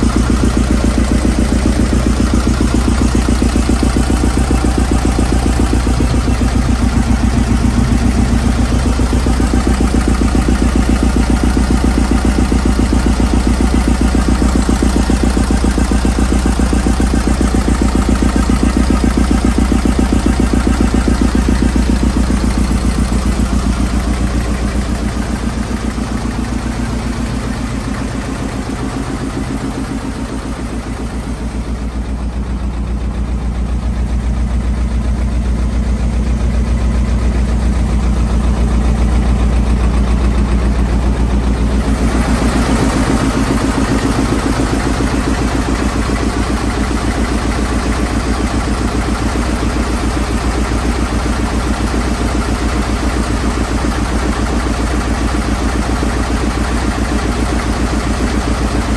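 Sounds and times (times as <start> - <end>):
stationary engine running: 0.0 - 58.9.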